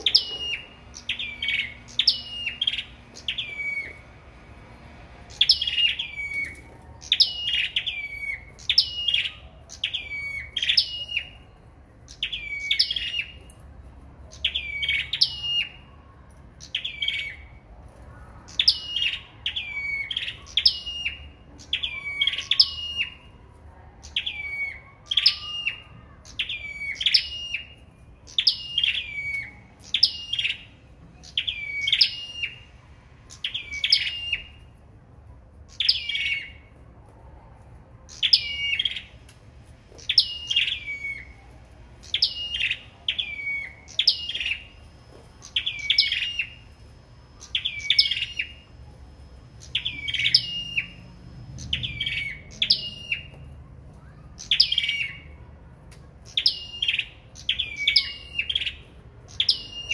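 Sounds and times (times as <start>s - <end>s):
small songbirds chirping: 0.0s - 4.4s, 5.2s - 23.4s, 24.0s - 34.8s, 35.6s - 36.8s, 39.9s - 55.4s, 56.2s - 59.9s.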